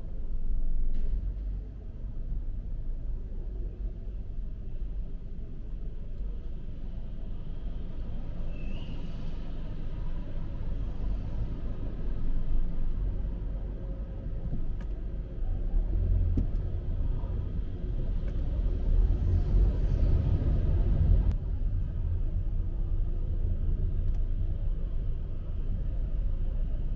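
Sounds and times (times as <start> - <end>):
city street traffic rumble: 0.0 - 26.9.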